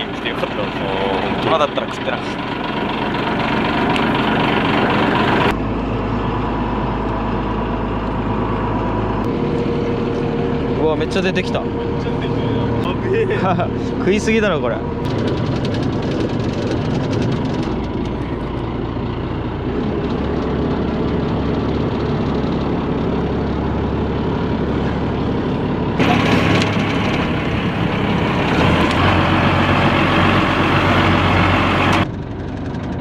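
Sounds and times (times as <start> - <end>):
boat engine idling: 0.0 - 33.0.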